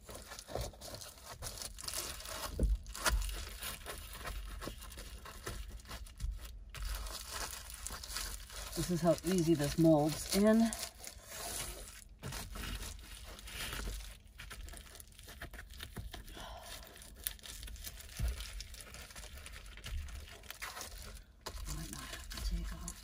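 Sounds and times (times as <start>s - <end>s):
foil insulation crinkling: 0.0s - 23.0s.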